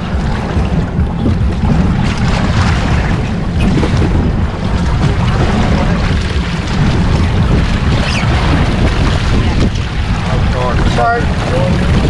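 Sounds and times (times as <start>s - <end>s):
wash of open water: 0.0s - 12.0s
wind buffeting microphone: 0.0s - 12.0s.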